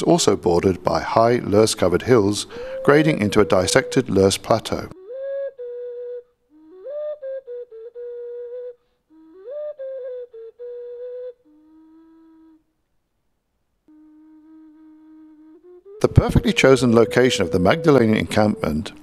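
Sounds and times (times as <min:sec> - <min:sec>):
solo flute melody: 0:01.9 - 0:12.7, 0:13.9 - 0:19.0.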